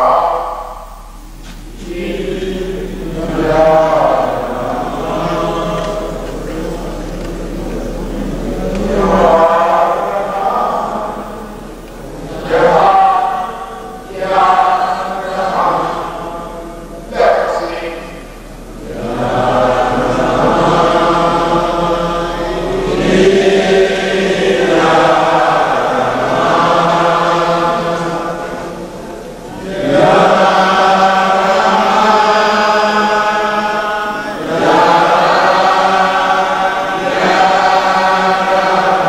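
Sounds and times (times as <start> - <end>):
congregation chanting a hymn: 0.0 - 39.0.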